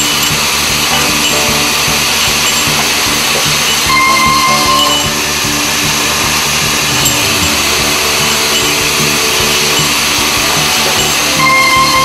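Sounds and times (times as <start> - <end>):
circular saw cutting steel pipes: 0.0 - 12.0.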